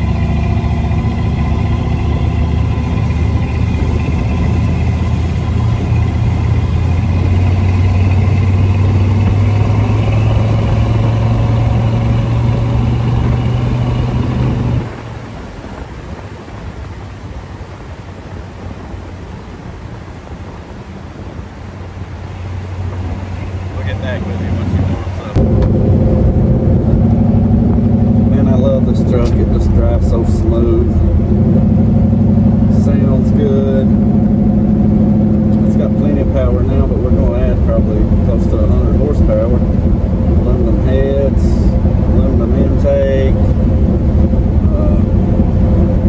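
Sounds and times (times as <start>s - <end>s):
truck engine running: 0.0s - 46.0s.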